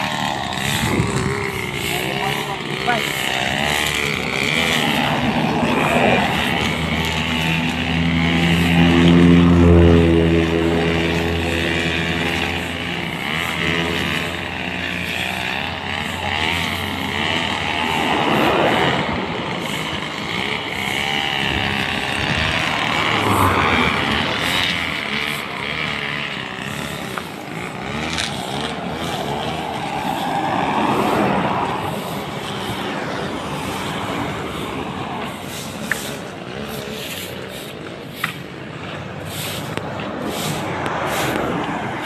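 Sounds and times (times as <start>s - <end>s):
brush cutter engine running: 0.0s - 42.0s.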